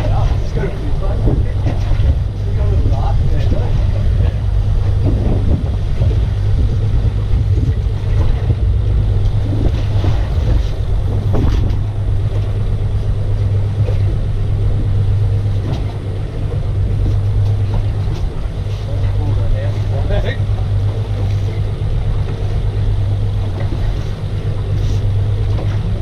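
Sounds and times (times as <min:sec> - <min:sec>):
outboard motor idling: 0:00.0 - 0:26.0.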